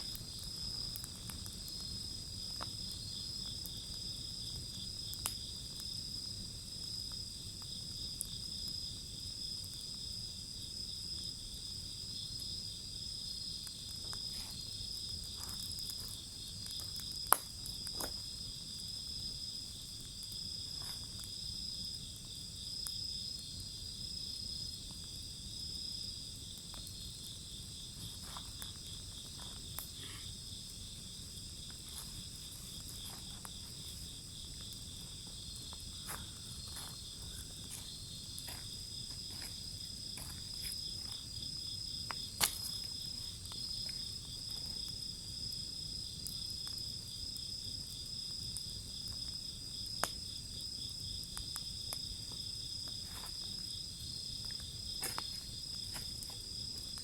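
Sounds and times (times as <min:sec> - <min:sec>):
bonfire crackling and popping: 0:00.0 - 0:57.0
insects chirping in trills: 0:00.0 - 0:57.0.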